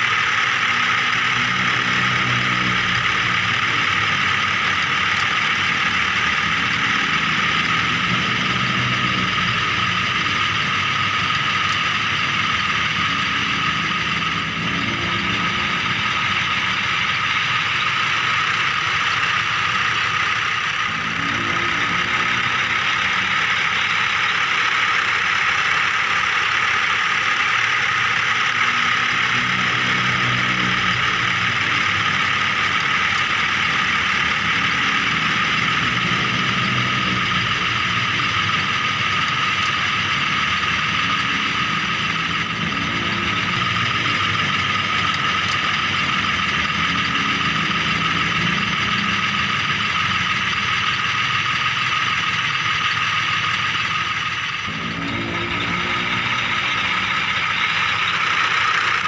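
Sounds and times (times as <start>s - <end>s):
toy vehicle motor whirring: 0.0s - 59.0s.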